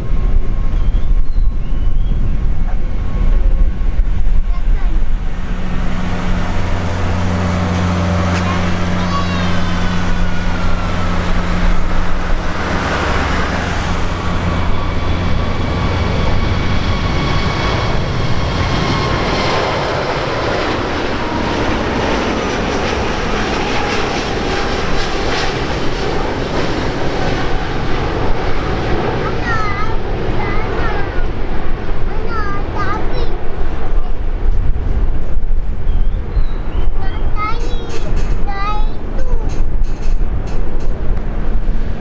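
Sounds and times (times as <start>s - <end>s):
jet engines passing: 0.0s - 42.0s.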